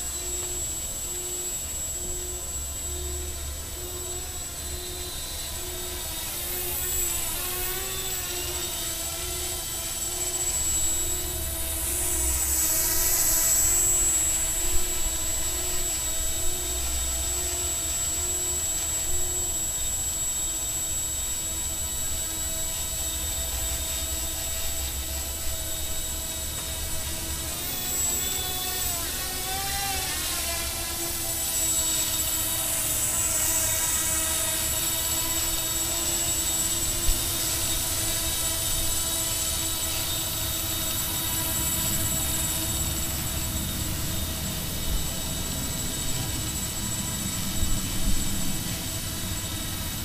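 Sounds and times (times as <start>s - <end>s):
quadcopter motors whining: 0.0s - 50.0s.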